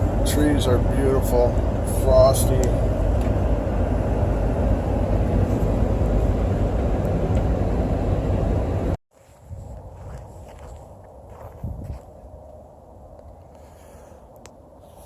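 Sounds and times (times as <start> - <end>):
vehicle cabin road rumble: 0.0 - 15.0.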